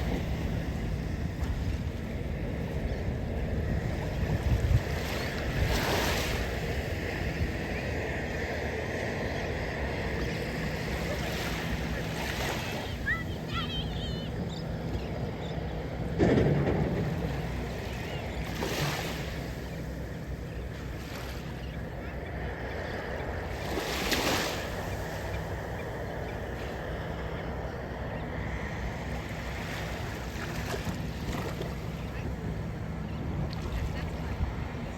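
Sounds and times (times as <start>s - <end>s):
sea water washing: 0.0s - 34.9s
wind rumbling on microphone: 0.0s - 34.9s.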